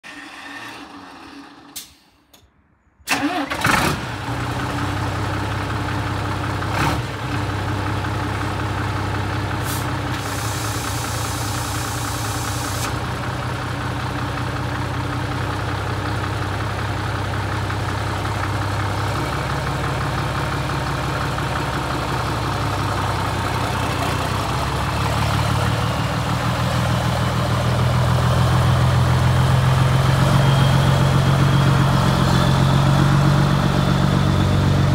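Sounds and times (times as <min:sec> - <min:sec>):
diesel truck engine cranking and idling: 0:03.0 - 0:34.9.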